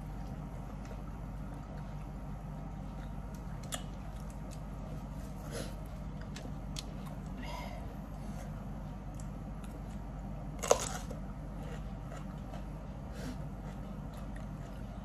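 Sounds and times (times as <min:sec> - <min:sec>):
steady low hum: 0:00.0 - 0:15.0
chewing crackles: 0:00.2 - 0:07.4, 0:09.0 - 0:15.0.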